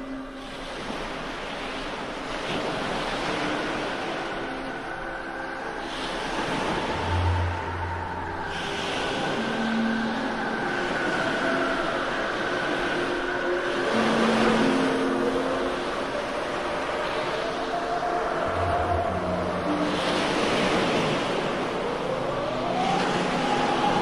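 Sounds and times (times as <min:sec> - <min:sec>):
rushing wave-like noise: 0:00.0 - 0:24.0
long held tones: 0:03.2 - 0:24.0.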